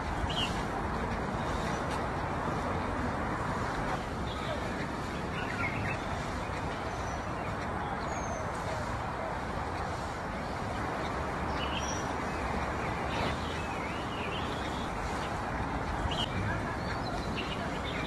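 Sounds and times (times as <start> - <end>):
murmur of distant voices: 0.0 - 18.0.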